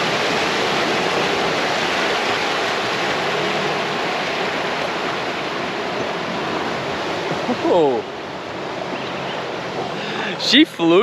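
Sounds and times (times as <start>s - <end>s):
water rushing around vehicle: 0.0s - 11.0s.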